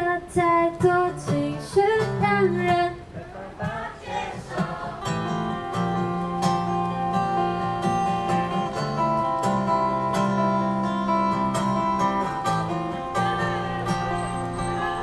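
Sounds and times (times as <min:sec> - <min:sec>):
live pop instrumental: 0:00.0 - 0:15.0.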